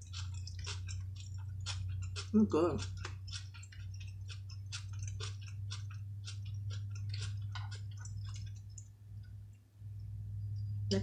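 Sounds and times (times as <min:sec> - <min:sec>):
wet chewing: 0:00.0 - 0:09.4
steady low hum: 0:00.0 - 0:11.0.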